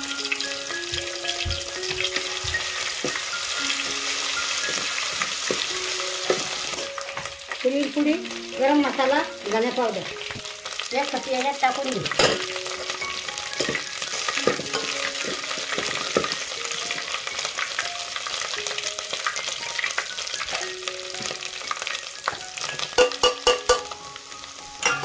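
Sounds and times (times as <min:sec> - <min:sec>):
onion sizzling in hot oil: 0:00.0 - 0:25.0.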